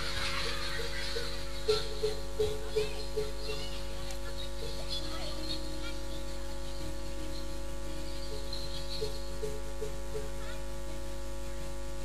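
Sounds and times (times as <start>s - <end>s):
faint crowd noise: 0.0s - 12.0s
sound system electrical hum: 0.0s - 12.0s.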